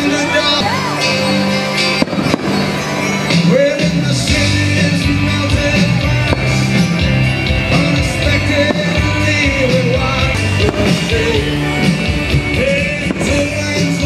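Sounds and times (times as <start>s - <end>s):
live rock band with singer: 0.0s - 14.0s.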